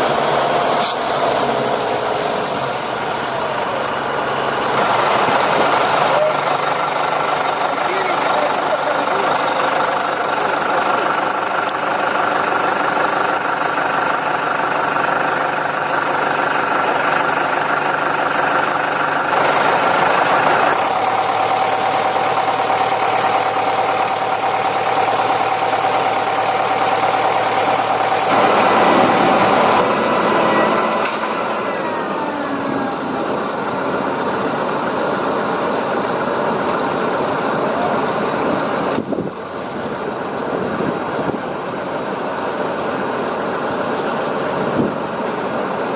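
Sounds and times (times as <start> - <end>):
heavy diesel engines running: 0.0 - 45.9.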